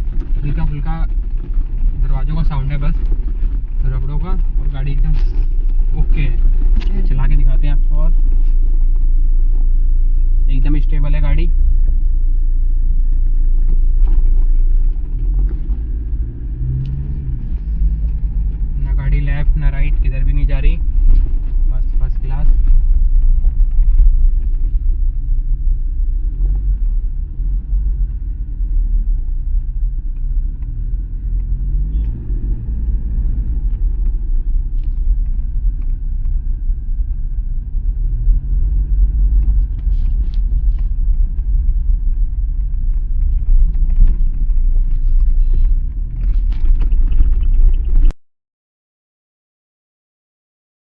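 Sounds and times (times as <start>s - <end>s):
car engine rising and falling: 0.0s - 48.2s
road rumble: 0.0s - 48.2s.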